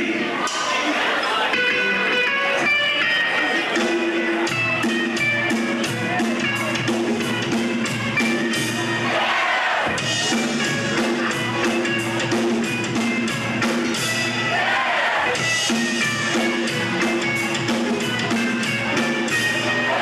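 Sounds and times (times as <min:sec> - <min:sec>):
bass and guitar notes: 0:00.0 - 0:20.0
drum kit beat: 0:00.0 - 0:20.0.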